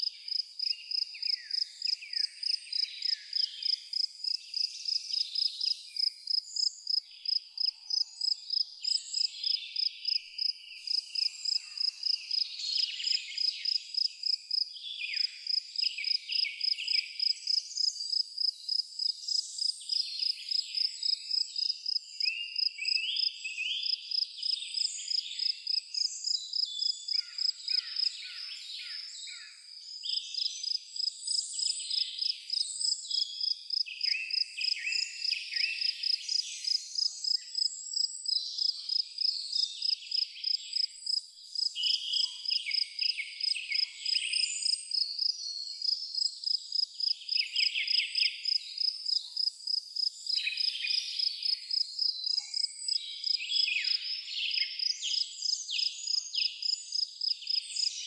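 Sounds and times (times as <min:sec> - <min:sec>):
birds singing: 0:00.0 - 0:49.5, 0:50.1 - 0:58.0
cricket chirping: 0:00.0 - 0:58.0.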